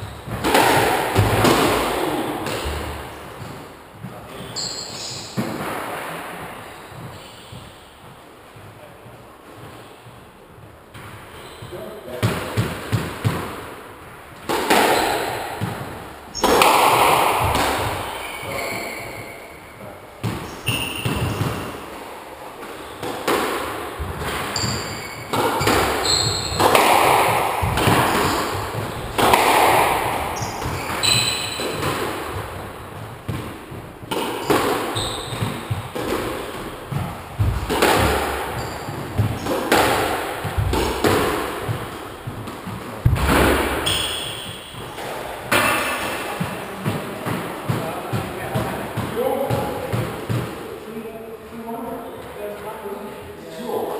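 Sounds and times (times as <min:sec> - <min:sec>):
shoes squeaking on wooden floor: 0:00.0 - 0:05.6, 0:06.4 - 0:12.2, 0:14.4 - 0:47.3
squash ball hitting rackets and walls: 0:00.0 - 0:51.2.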